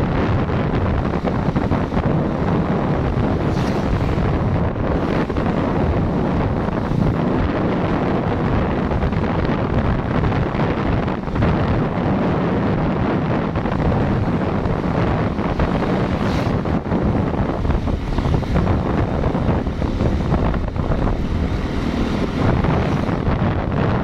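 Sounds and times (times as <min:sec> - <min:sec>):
vehicle running noise: 0:00.0 - 0:24.0
wind rumble on microphone: 0:00.0 - 0:24.0.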